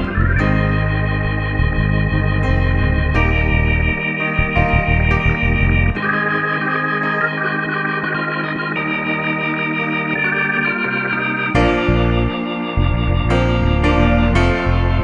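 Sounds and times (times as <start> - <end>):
bass: 0.0 - 6.1, 7.6 - 15.0
organ-like keyboard chords: 0.0 - 15.0.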